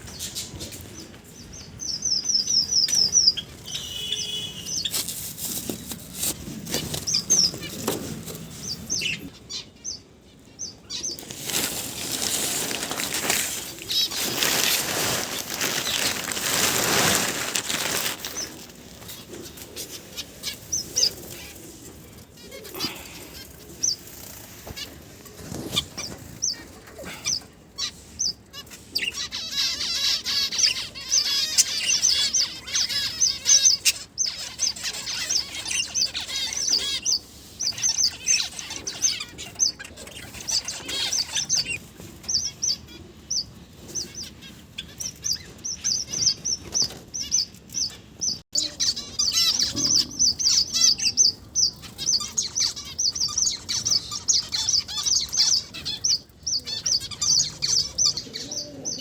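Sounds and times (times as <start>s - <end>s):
finches chirping: 0.0s - 5.0s, 6.3s - 25.0s, 25.7s - 59.0s.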